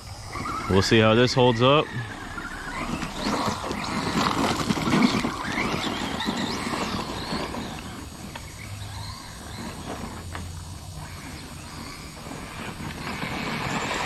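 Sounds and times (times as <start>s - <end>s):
rc car motor and gears whining: 0.0s - 14.0s.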